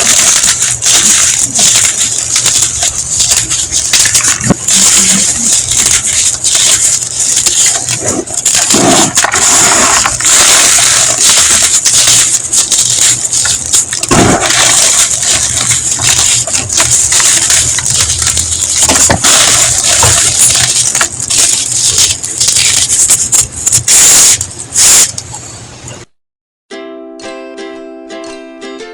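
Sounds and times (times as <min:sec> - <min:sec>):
chalk powder crunching and crackling: 0:00.0 - 0:25.1.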